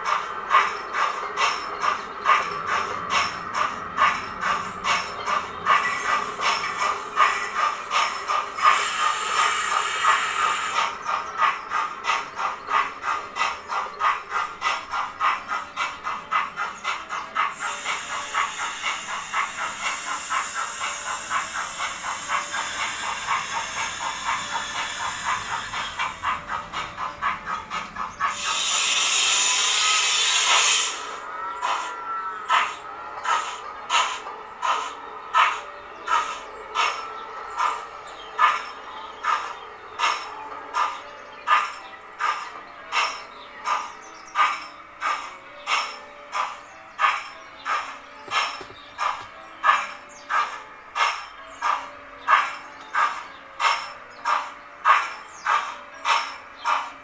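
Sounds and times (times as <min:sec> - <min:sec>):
model steam locomotive chuffing: 0:00.0 - 0:57.0
steam hiss: 0:00.0 - 0:57.0.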